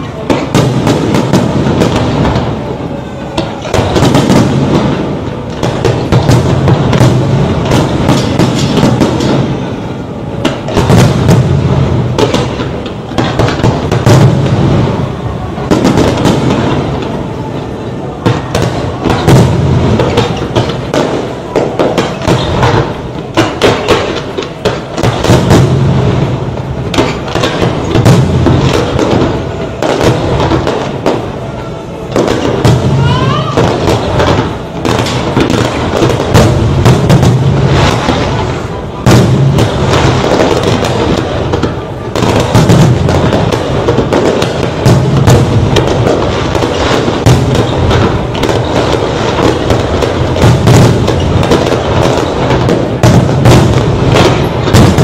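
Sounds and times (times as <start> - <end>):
fireworks bangs and booms: 0.0 - 55.0
rising firework whistle: 0.0 - 55.0.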